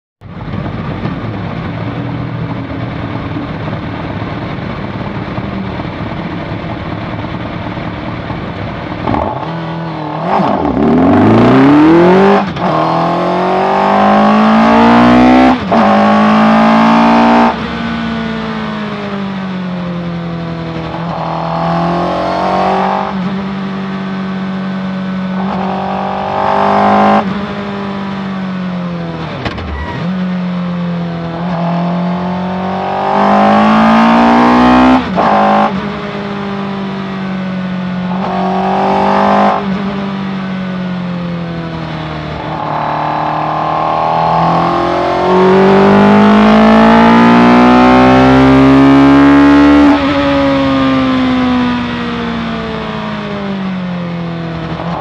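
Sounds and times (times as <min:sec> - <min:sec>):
car engine revving: 0:00.2 - 0:55.0.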